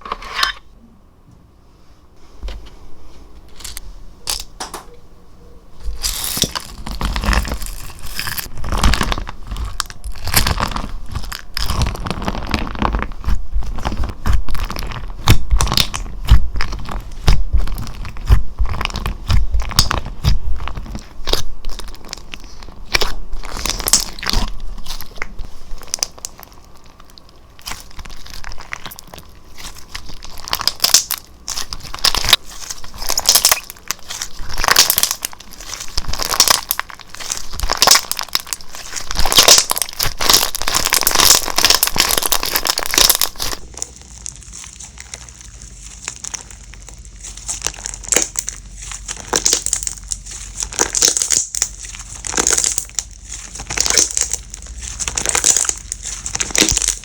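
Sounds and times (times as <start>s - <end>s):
slime crackling and popping: 5.9s - 57.0s.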